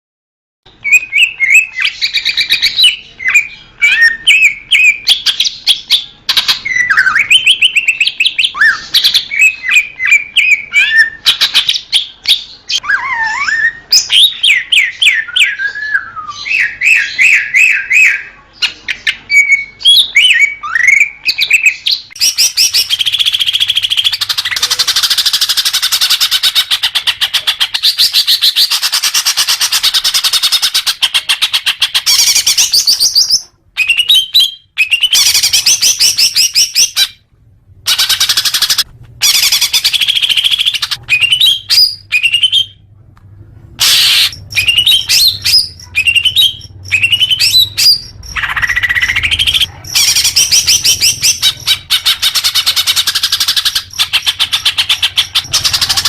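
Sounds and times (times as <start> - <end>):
bird singing: 0.7 - 37.2, 37.9 - 42.8, 43.8 - 56.0.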